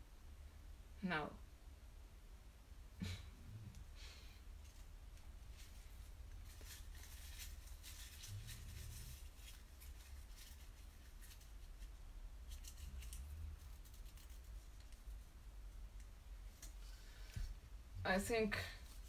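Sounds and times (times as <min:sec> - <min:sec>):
low steady hum: 0:00.0 - 0:19.0
faint rustling: 0:03.0 - 0:19.0.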